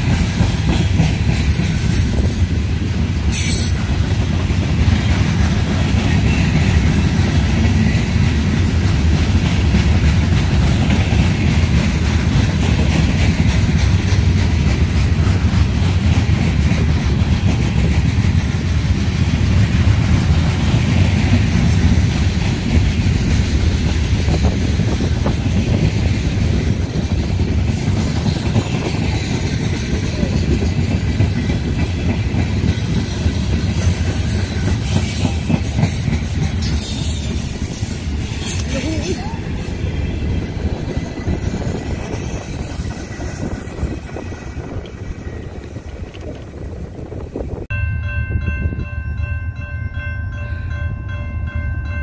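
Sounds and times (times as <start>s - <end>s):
steel wheels clattering on rails: 0.0s - 47.7s
freight train rumbling past: 0.0s - 52.0s.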